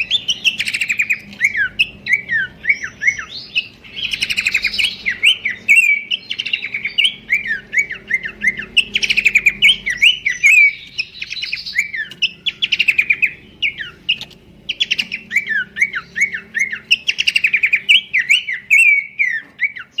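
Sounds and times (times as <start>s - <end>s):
bird singing chattering trill: 0.0s - 20.0s.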